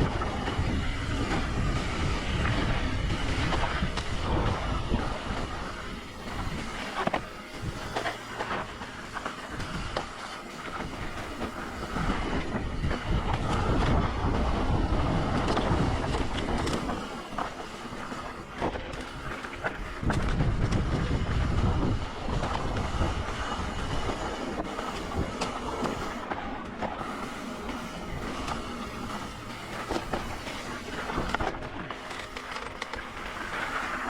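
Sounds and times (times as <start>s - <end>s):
bike tyre noise: 0.0s - 34.0s
wind rumbling on microphone: 0.0s - 34.0s.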